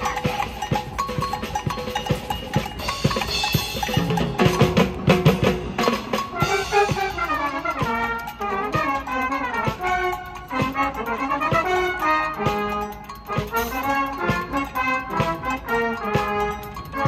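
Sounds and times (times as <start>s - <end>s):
brass and wind playing: 0.0s - 17.0s
drum kit and percussion beat: 0.0s - 17.0s.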